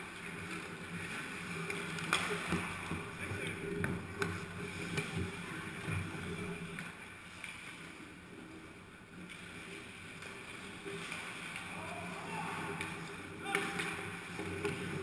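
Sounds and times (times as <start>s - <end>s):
players skating on ice: 0.0s - 15.0s.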